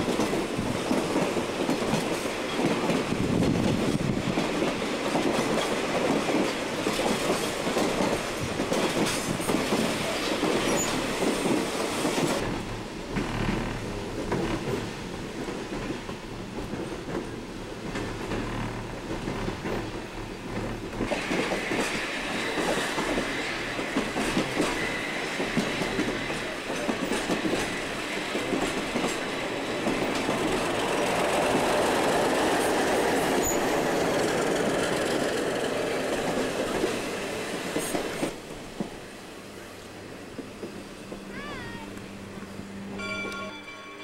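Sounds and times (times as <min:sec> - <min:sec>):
rail car wheels rolling on track: 0:00.0 - 0:44.0.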